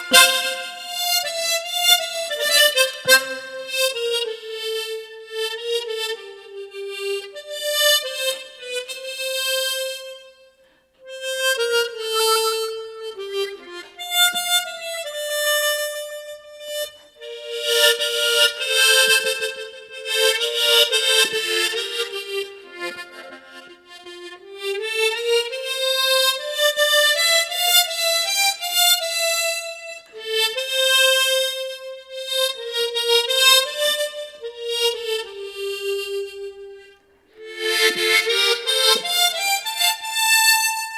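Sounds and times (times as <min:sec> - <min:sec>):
tremolo harmonica melody: 0:00.0 - 0:40.9.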